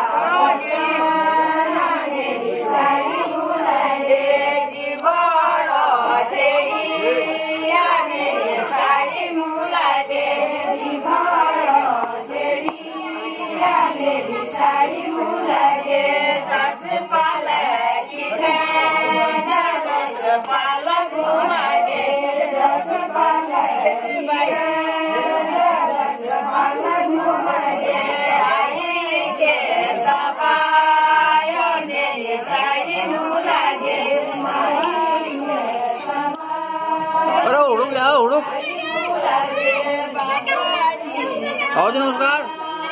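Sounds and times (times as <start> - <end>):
group of women singing: 0.0 - 42.9.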